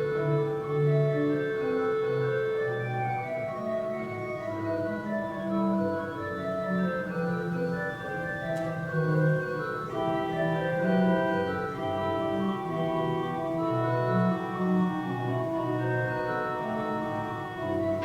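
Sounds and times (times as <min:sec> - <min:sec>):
organ playing held chords: 0:00.0 - 0:18.0.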